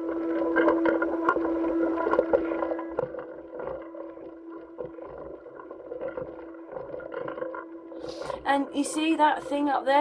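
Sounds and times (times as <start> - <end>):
crackles and clicks: 0.0 - 10.0
steady hum: 0.0 - 10.0.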